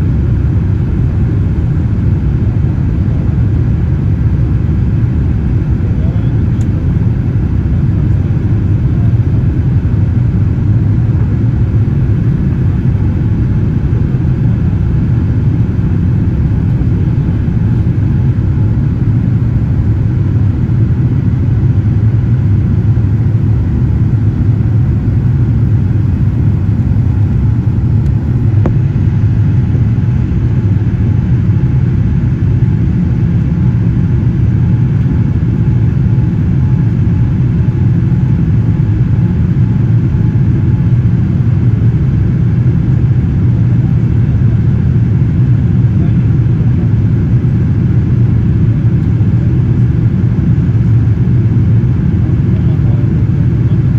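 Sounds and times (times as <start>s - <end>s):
jet engines droning: 0.0s - 53.9s.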